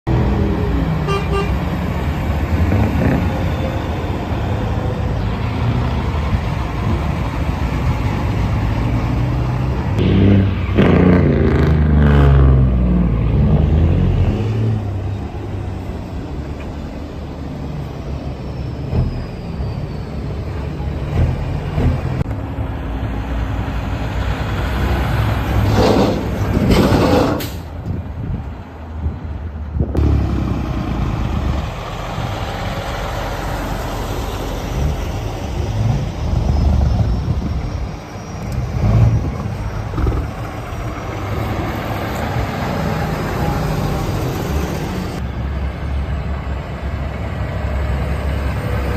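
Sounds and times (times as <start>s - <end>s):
truck engines running: 0.1s - 48.9s.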